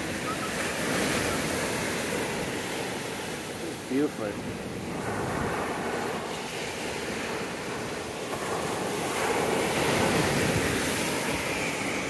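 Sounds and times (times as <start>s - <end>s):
surf breaking on a beach: 0.0s - 12.0s
wind buffeting microphone: 0.0s - 12.0s.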